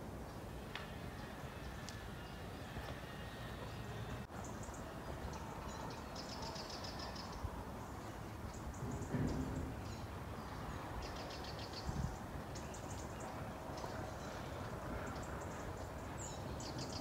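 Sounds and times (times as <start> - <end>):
steady outdoor hiss: 0.0 - 17.0
small birds chirping: 1.2 - 17.0.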